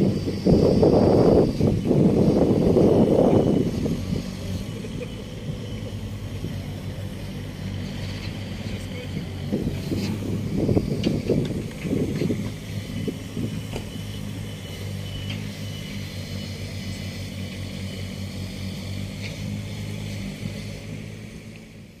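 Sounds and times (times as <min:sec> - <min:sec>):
excavator diesel engines humming: 0:00.0 - 0:22.0.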